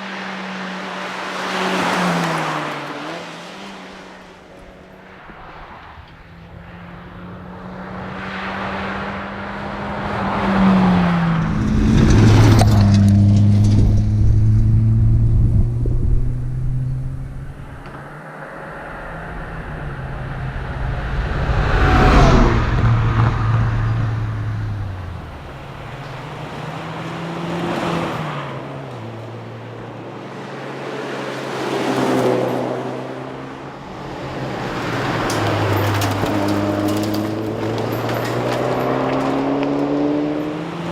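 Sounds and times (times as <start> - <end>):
rally car engine passing: 0.0 - 40.9.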